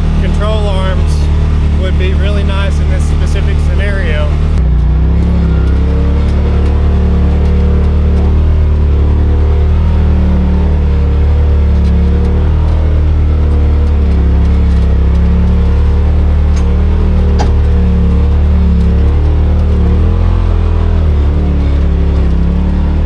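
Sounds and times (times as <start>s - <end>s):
utility vehicle engine under load: 0.0s - 23.0s.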